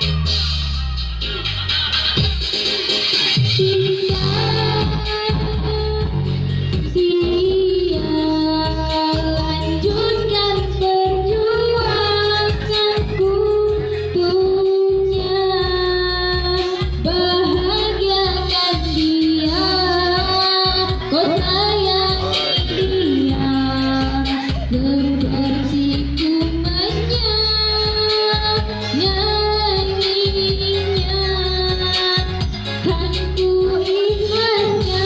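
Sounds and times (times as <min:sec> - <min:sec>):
backing track with bass beat: 0:00.0 - 0:35.0
high-voiced person singing: 0:03.6 - 0:06.2, 0:06.9 - 0:35.0.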